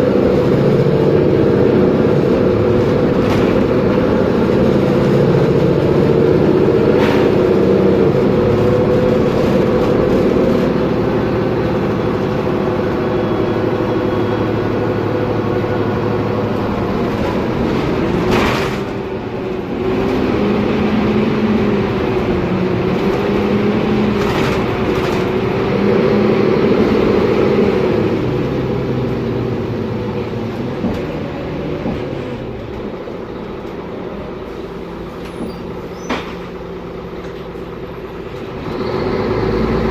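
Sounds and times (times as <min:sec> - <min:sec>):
bus diesel engine whining: 0:00.0 - 0:39.9.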